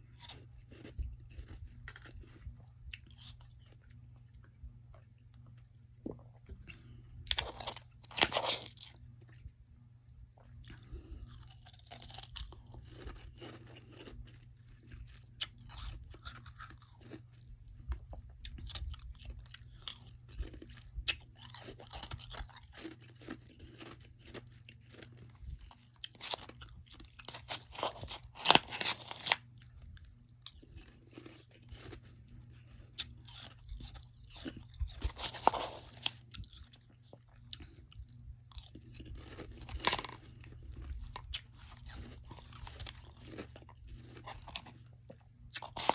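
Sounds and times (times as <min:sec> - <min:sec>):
crunching and chewing frost: 0:00.0 - 0:09.6, 0:10.2 - 0:45.9
faint low hum: 0:00.0 - 0:45.9.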